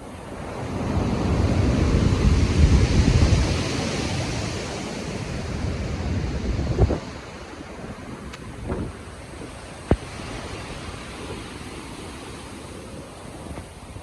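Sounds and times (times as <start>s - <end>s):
ocean waves surging: 0.0s - 14.0s
wind over sea: 0.0s - 14.0s.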